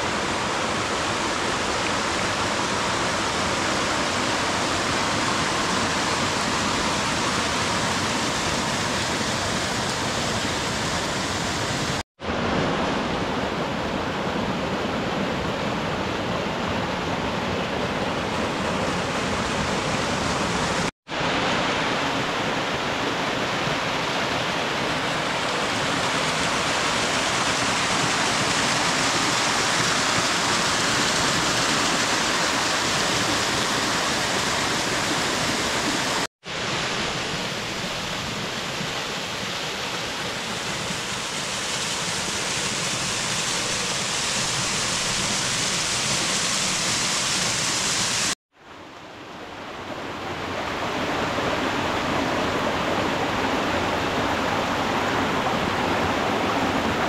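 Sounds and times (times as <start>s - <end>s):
waterfall rushing over rock: 0.0s - 14.2s, 18.1s - 48.4s, 49.5s - 57.0s.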